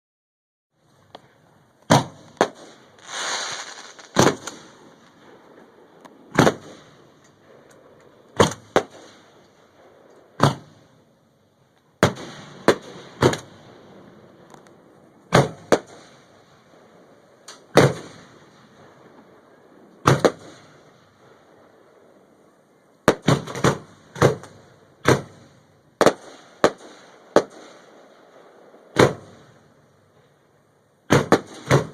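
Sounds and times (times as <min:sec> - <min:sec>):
firework bangs: 0:01.1 - 0:11.1, 0:12.0 - 0:21.8, 0:23.0 - 0:29.7, 0:31.0 - 0:31.9.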